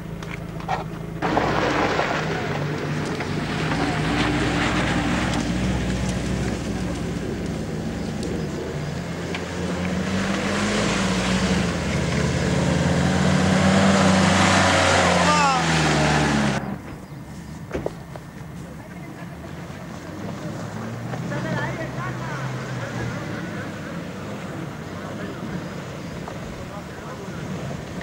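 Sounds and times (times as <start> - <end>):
off-road vehicle engine: 0.0 - 28.0.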